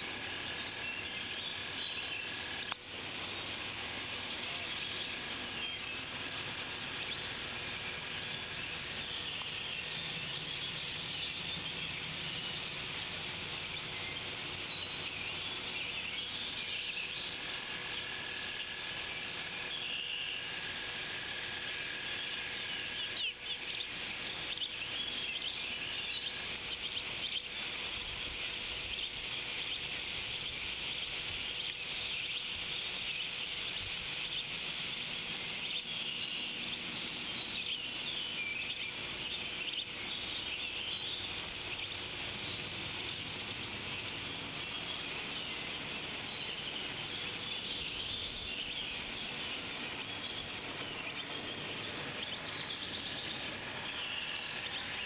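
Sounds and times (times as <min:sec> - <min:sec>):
birds chirping and singing: 0:00.0 - 0:55.0
steady outdoor hiss: 0:00.0 - 0:55.0.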